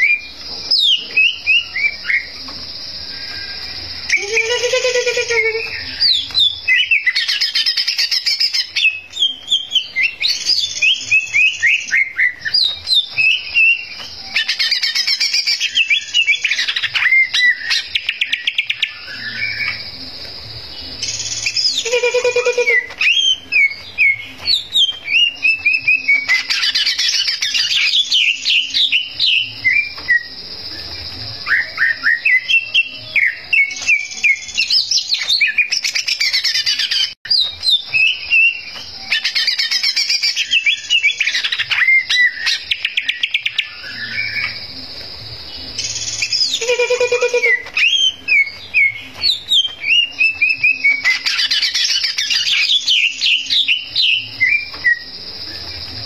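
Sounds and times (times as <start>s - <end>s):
bird singing chirps and trills: 0.0s - 56.0s.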